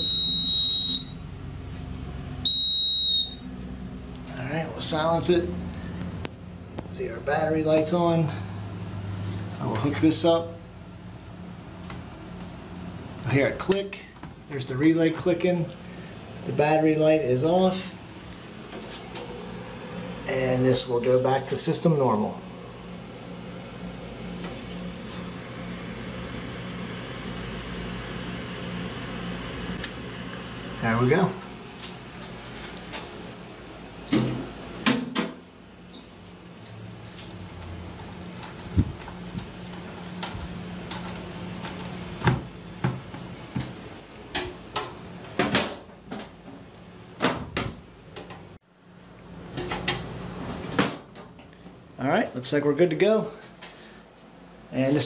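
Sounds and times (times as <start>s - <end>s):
equipment hum with hiss: 0.0s - 55.0s.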